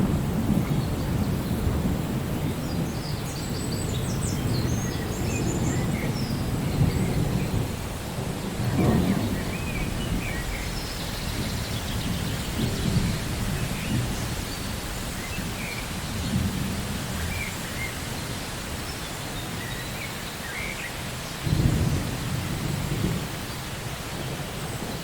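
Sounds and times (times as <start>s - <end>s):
low rolling thunder: 0.0s - 20.0s, 21.4s - 25.0s
steady rain: 0.0s - 25.0s.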